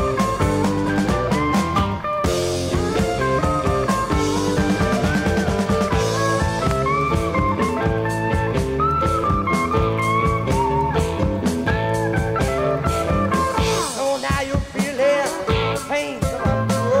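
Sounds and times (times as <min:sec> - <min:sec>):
bending guitar lead line: 0:00.0 - 0:17.0
instrumental rock music: 0:00.0 - 0:17.0.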